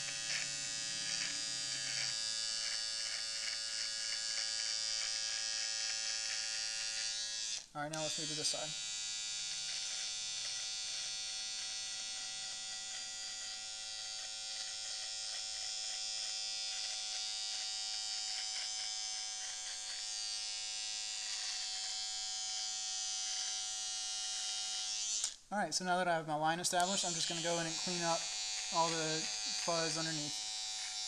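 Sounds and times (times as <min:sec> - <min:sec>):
electric hair trimmer buzzing: 0:00.0 - 0:25.4, 0:26.6 - 0:31.0.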